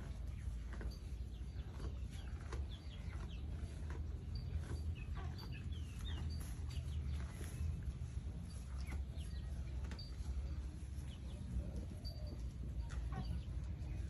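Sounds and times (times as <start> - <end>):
birds and chickens chirping: 0.0 - 14.0
steady low rumble: 0.0 - 14.0.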